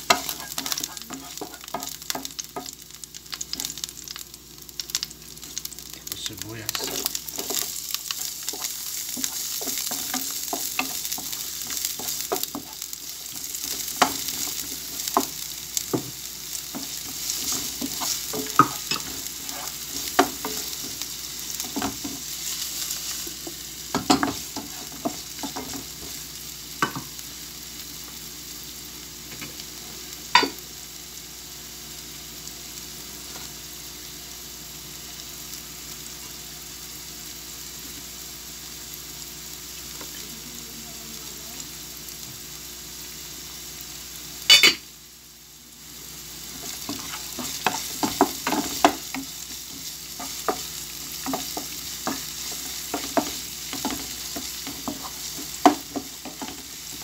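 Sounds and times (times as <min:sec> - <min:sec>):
onions sizzling in hot oil: 0:00.0 - 0:57.0.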